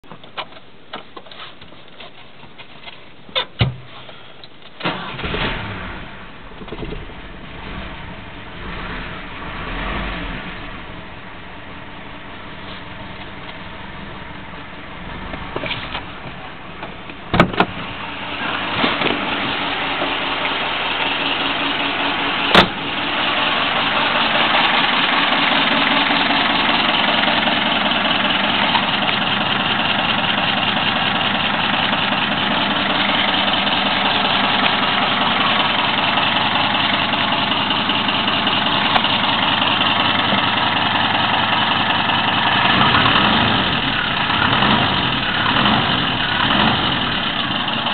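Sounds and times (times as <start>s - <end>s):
petrol engine running: 4.8s - 47.9s.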